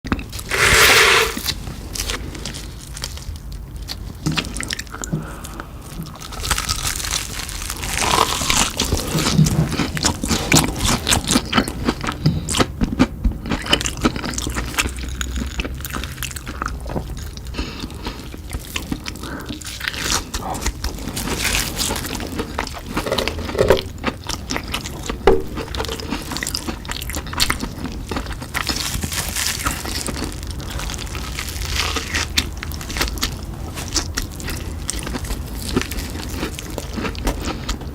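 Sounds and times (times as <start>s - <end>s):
crunchy snack chewing: 0.1s - 5.1s, 6.0s - 37.9s.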